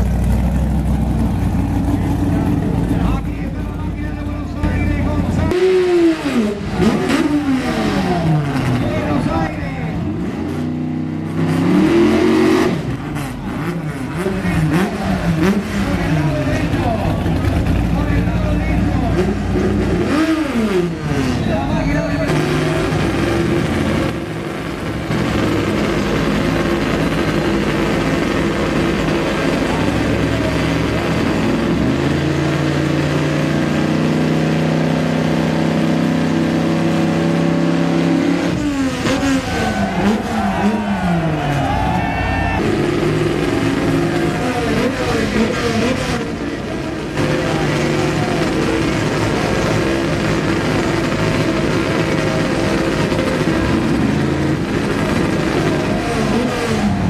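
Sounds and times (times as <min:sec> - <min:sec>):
car engine held at high revs: 0:00.0 - 0:41.6, 0:42.6 - 0:57.0
car engine revving up and down: 0:00.0 - 0:57.0.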